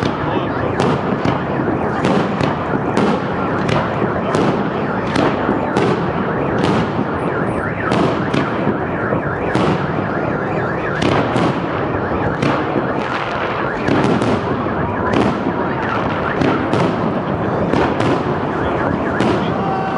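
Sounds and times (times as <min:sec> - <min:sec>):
dense continuous din: 0:00.0 - 0:19.9.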